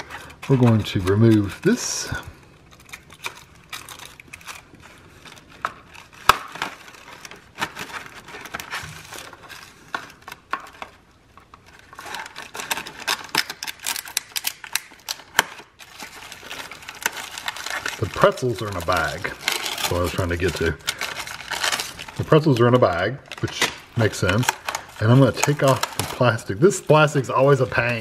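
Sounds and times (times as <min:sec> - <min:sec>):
plastic crinkling: 0:00.0 - 0:28.0
scissors cutting plastic film: 0:00.0 - 0:28.0.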